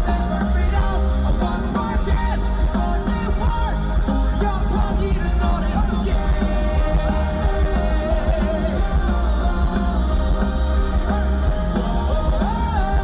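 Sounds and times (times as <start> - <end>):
live rock band music: 0.0 - 13.0.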